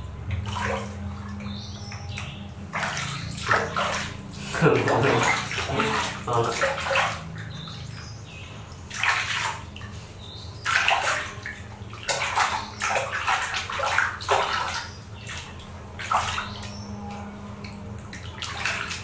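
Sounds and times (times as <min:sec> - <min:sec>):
water splashing in plastic basin: 0:00.0 - 0:19.0.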